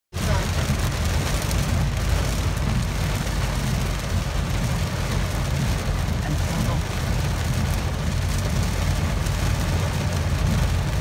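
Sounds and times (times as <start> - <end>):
heavy rain on car roof: 0.1 - 11.0.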